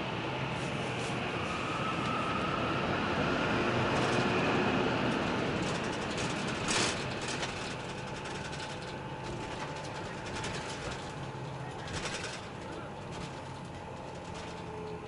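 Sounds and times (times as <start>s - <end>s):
coach engine and road noise: 0.0s - 15.0s.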